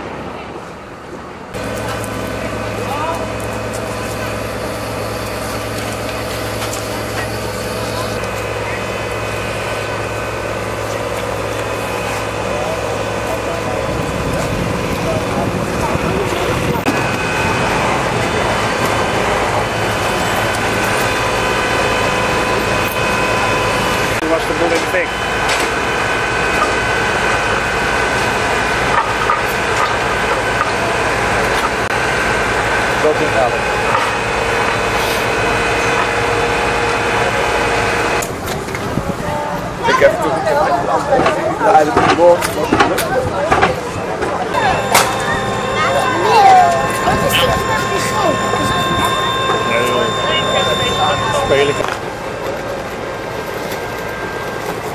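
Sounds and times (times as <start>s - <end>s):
high whine: 1.4s - 39.4s, 44.5s - 54.9s
fire truck engine idling: 1.5s - 54.9s.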